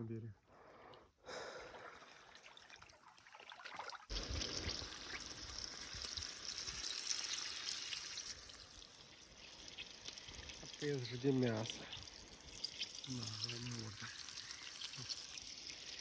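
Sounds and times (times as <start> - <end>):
water trickling and splashing: 1.6 - 16.0.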